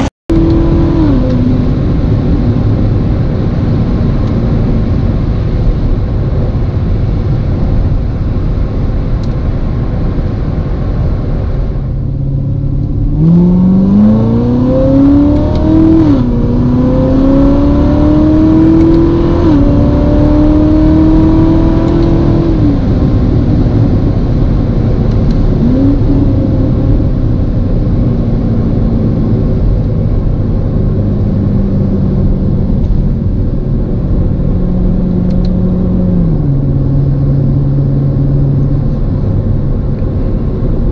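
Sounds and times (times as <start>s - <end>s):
car engine accelerating and upshifting: 0.0s - 40.9s.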